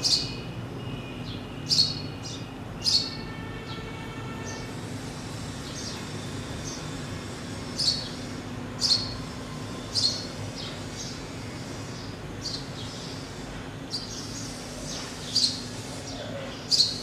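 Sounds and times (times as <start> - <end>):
sparrows chirping: 0.0 - 17.0.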